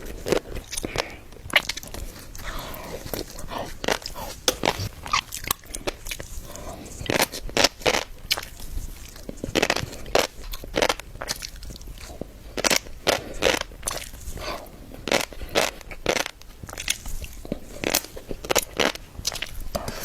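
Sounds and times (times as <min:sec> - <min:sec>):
person chewing crisp food: 0:00.0 - 0:20.0.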